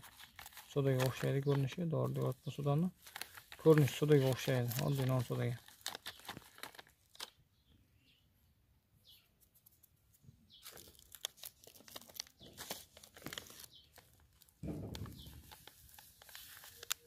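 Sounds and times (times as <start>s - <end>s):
paper sachet crinkling: 0.0s - 7.4s, 10.6s - 17.0s.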